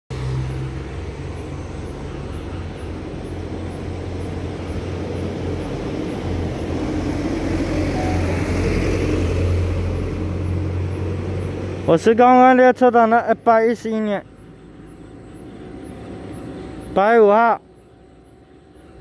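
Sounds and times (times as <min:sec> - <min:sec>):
low engine hum: 0:00.1 - 0:19.0
traffic rumble: 0:00.1 - 0:19.0.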